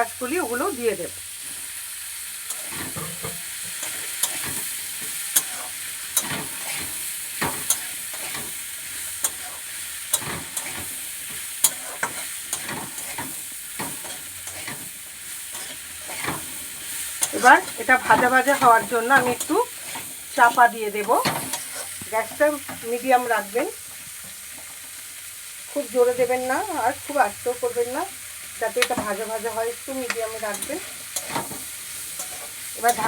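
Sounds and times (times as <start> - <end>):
vegetables sizzling in a pan: 0.0 - 33.0
spatula scraping a pan: 1.3 - 25.0, 28.8 - 33.0.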